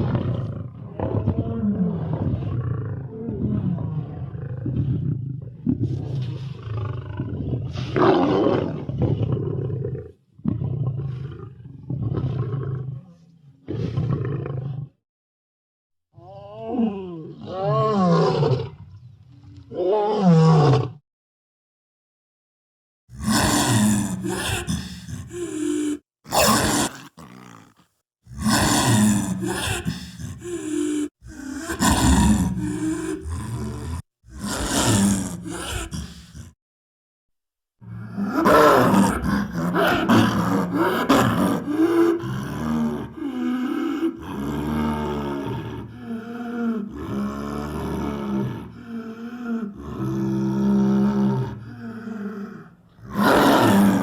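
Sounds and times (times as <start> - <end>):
lion roaring and growling: 0.0 - 15.0, 17.3 - 21.0, 23.1 - 36.6, 37.8 - 46.2, 46.8 - 54.0.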